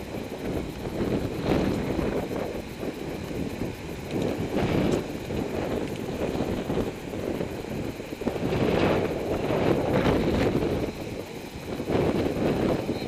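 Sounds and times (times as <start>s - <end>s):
bike rolling noise: 0.0s - 13.0s
wind rumbling on microphone: 0.0s - 13.0s.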